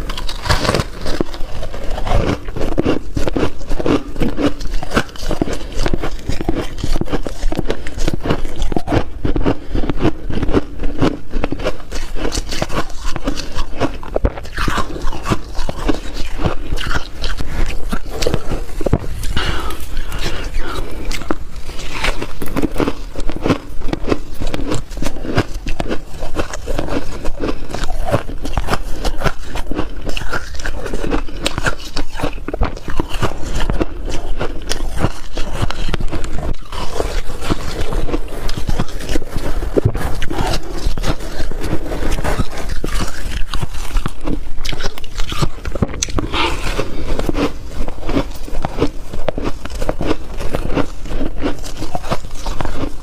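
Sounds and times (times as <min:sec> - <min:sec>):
frost crunching and scraping: 0:00.0 - 0:53.0.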